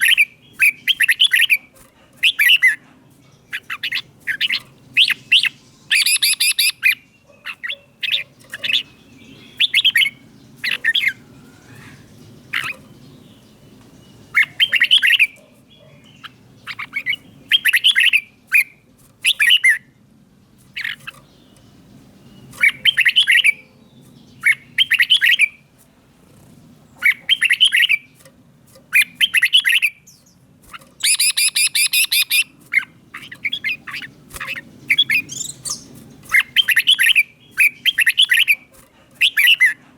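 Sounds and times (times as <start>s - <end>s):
bird singing warbled phrases: 0.0s - 39.8s.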